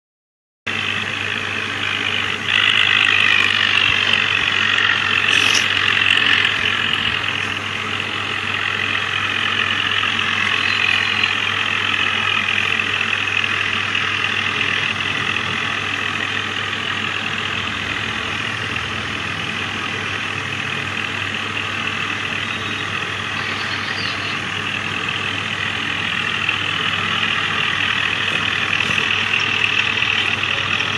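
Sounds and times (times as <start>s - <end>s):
tractor engine running: 0.7s - 30.9s.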